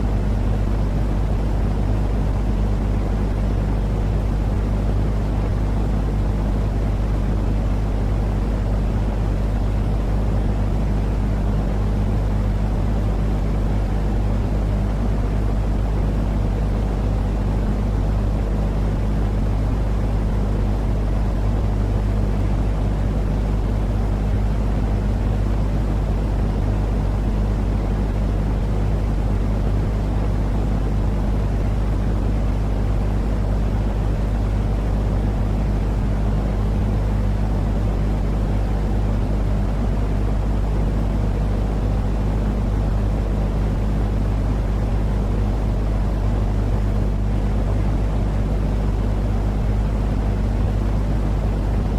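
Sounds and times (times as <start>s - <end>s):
low steady hum: 0.0s - 51.9s
low white noise drone: 0.0s - 51.9s.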